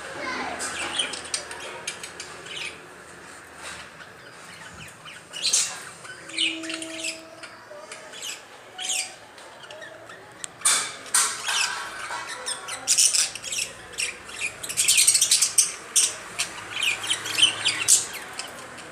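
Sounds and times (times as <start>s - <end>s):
parrots squawking and chirping: 0.2s - 2.9s, 3.5s - 18.9s.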